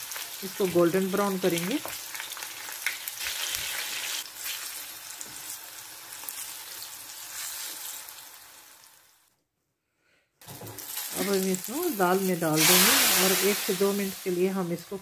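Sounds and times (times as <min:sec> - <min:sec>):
garlic sizzling in hot oil: 0:00.0 - 0:09.3, 0:10.4 - 0:15.0.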